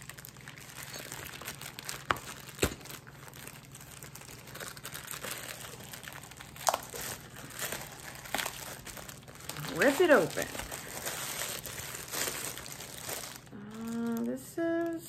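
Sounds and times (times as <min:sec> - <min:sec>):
plastic bag crinkling: 0:00.0 - 0:15.0
plastic bag tearing: 0:00.0 - 0:15.0.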